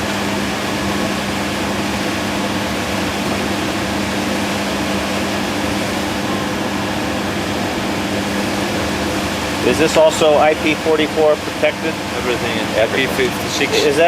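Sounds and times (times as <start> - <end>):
constant low hum: 0.0 - 14.0
heater blower and burner rushing: 0.0 - 14.0.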